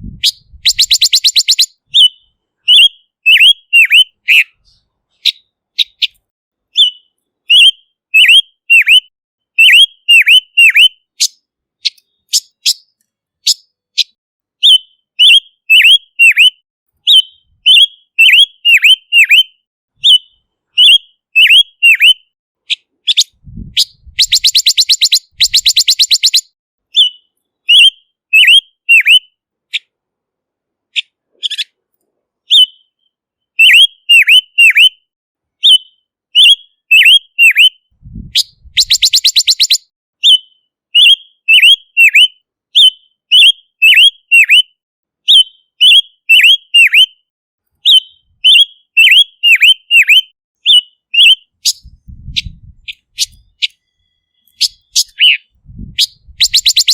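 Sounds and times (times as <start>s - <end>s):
bird whistled calls: 0.0s - 29.9s, 32.5s - 35.0s, 35.6s - 44.7s, 45.3s - 47.2s, 47.8s - 56.9s.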